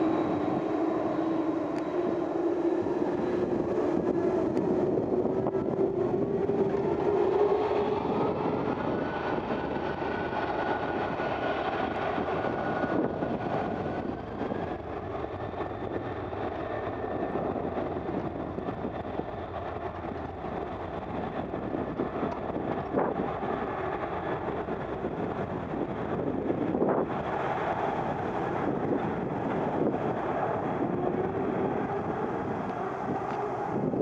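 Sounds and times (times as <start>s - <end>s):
jet engines rumbling: 0.0s - 34.0s
wind buffeting microphone: 0.0s - 34.0s.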